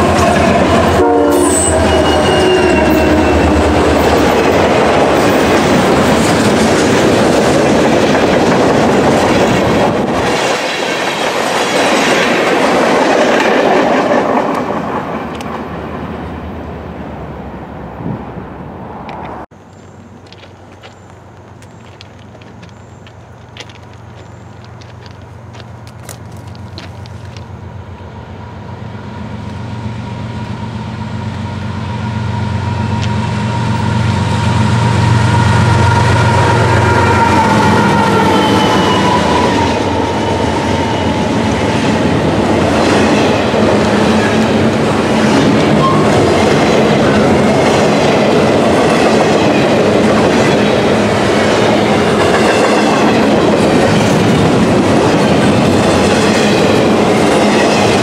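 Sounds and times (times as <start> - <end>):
diesel locomotive engine drone: 0.0 - 58.0
locomotive whine: 0.0 - 58.0.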